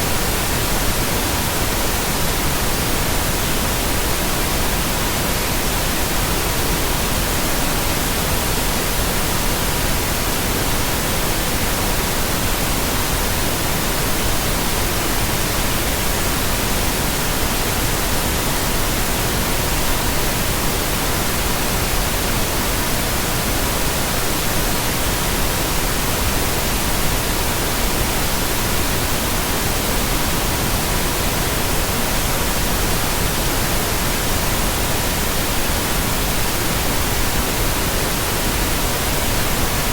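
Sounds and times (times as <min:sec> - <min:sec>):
pink noise hissing: 0:00.0 - 0:39.9.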